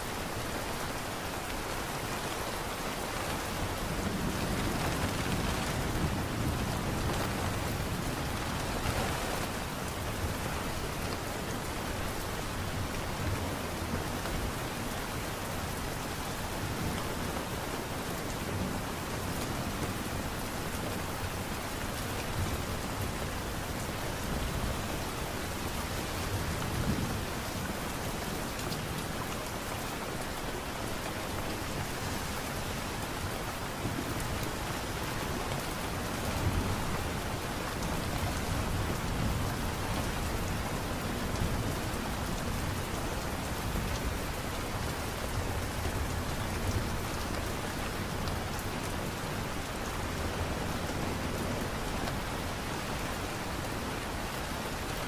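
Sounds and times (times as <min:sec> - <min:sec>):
light rain patter: 0:00.0 - 0:55.0.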